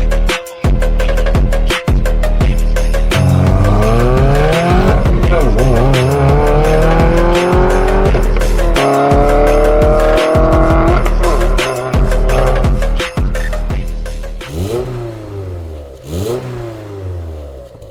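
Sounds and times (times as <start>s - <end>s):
music with steady beat: 0.0s - 15.3s
car engine accelerating: 3.0s - 17.9s.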